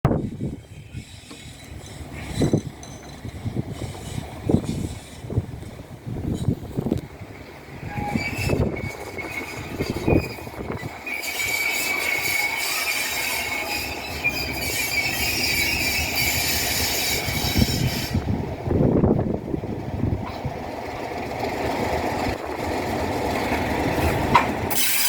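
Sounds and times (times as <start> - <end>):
train wheels squealing on rails: 0.1 - 18.4, 21.8 - 25.0.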